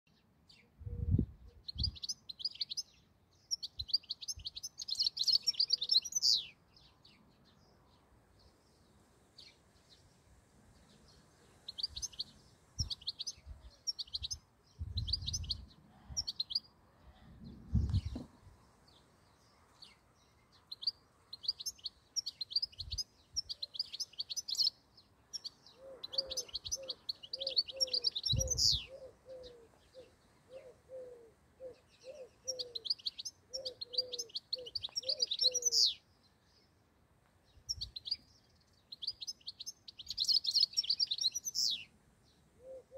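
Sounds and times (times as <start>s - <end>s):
bird twittering and trilling: 0.1s - 7.2s, 10.8s - 16.7s, 19.0s - 36.1s, 37.6s - 41.9s.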